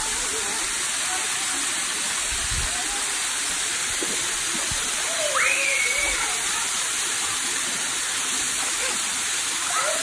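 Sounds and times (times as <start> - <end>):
waterfall rushing into pool: 0.0 - 10.0.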